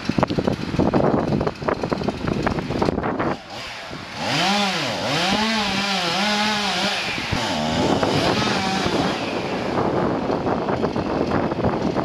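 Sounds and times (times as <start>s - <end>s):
chainsaw cutting wood: 0.0s - 12.0s
rough noise: 0.2s - 12.0s.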